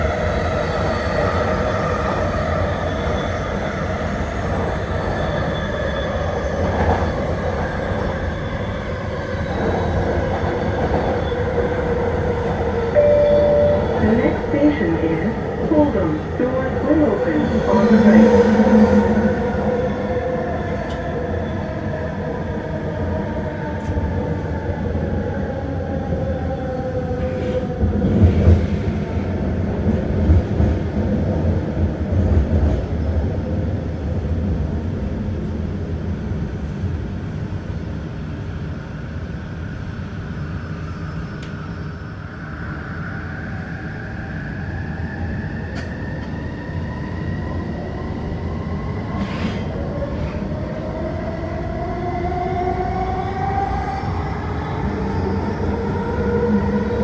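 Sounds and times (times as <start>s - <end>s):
train wheel and track rumble: 0.0s - 57.0s.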